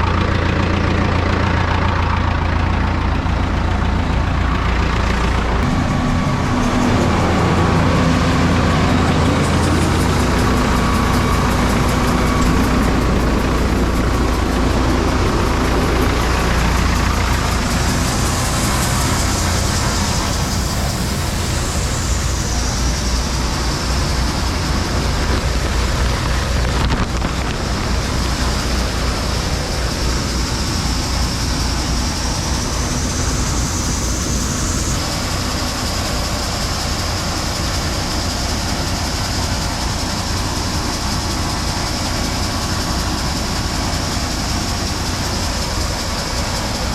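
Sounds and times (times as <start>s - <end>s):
high wavering whine: 0.0s - 46.9s
tractor engine under load: 0.0s - 46.9s.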